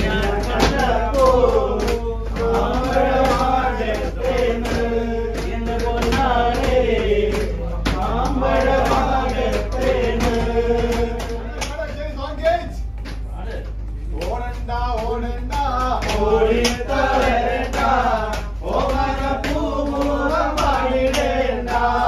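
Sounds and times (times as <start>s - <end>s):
men singing: 0.0s - 12.1s, 13.7s - 22.0s
low steady hum: 0.0s - 22.0s.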